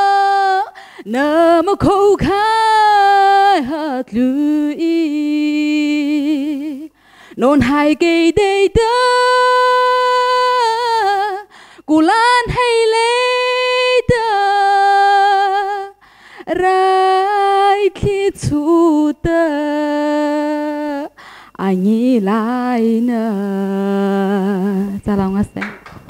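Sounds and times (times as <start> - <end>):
woman singing unaccompanied: 0.0 - 25.8.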